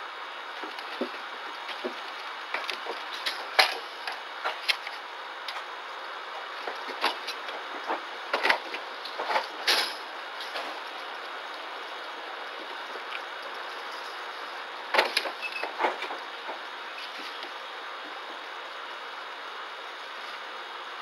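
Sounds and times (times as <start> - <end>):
microphone hiss: 0.0 - 21.0.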